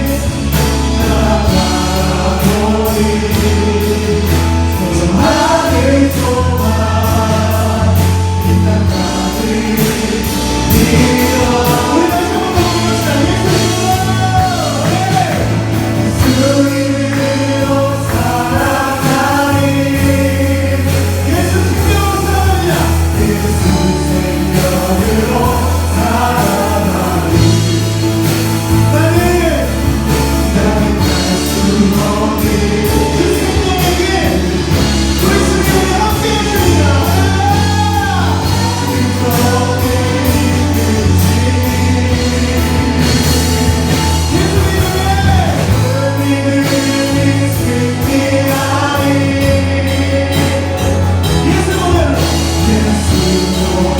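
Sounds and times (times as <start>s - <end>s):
group of voices singing: 0.0s - 53.9s
held bass notes: 0.0s - 53.9s.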